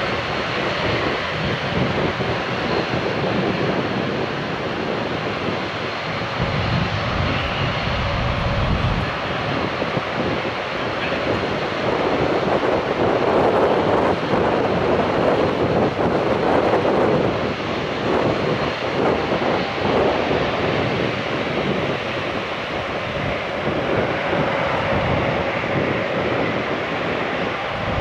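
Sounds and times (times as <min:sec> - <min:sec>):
turboprop engines running: 0:00.0 - 0:28.0
wind on microphone: 0:00.0 - 0:28.0.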